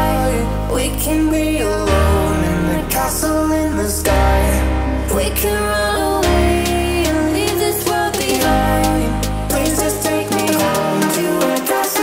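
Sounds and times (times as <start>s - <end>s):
pop song with steady beat: 0.0s - 12.0s.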